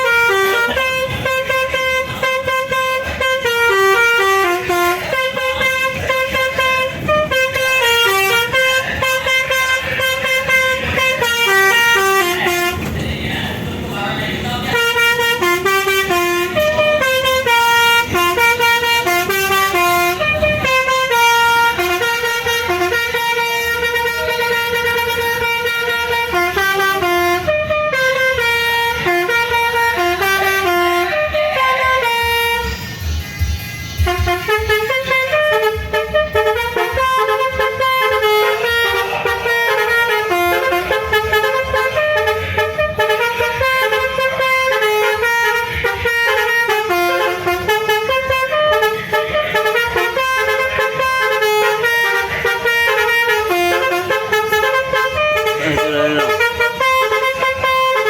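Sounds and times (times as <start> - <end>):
multi-tone vehicle horn playing tunes: 0.0 - 58.0.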